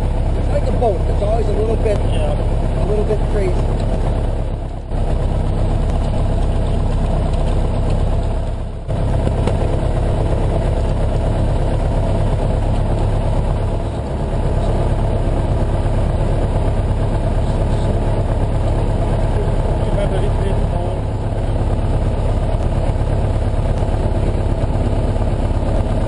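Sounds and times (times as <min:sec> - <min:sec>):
propeller plane engine running: 0:00.0 - 0:26.0.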